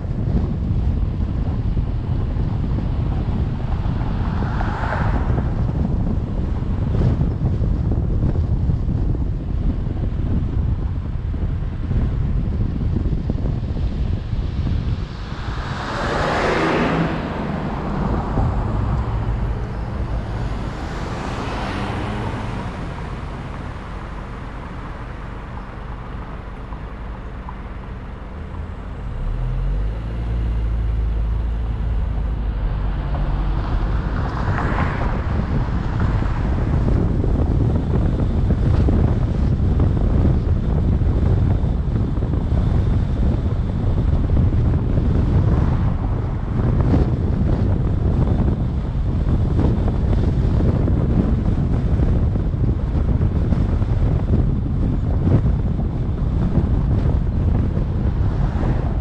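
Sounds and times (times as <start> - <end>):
road and tyre noise: 0.0 - 59.0
vehicles swishing by: 0.0 - 59.0
wind buffeting microphone: 0.0 - 59.0.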